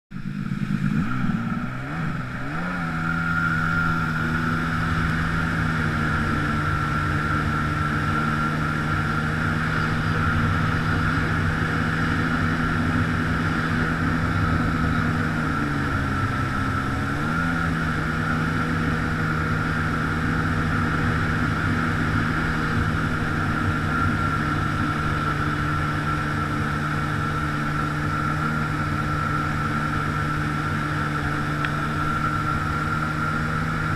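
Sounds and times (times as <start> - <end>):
jet ski engine running: 0.1 - 33.9.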